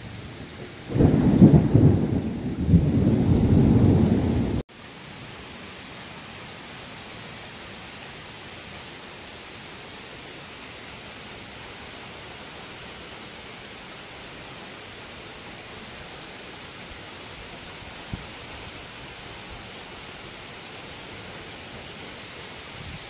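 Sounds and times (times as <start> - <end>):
rain falling steadily: 0.0 - 23.0.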